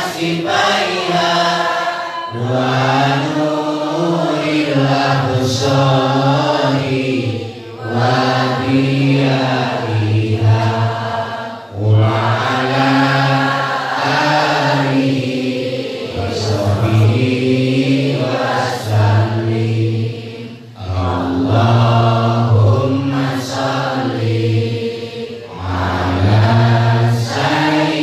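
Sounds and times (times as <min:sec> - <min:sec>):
men chanting over a microphone: 0:00.0 - 0:28.0.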